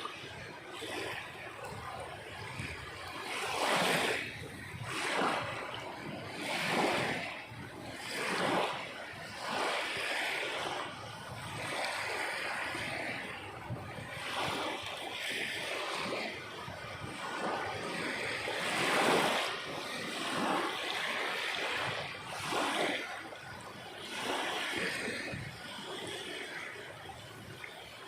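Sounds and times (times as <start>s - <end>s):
sea waves washing in: 0.0s - 28.0s.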